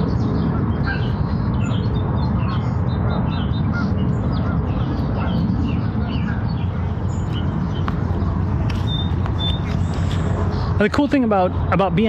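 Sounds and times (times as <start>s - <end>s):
loud low rumble: 0.0s - 10.8s
small birds chirping: 0.0s - 12.0s.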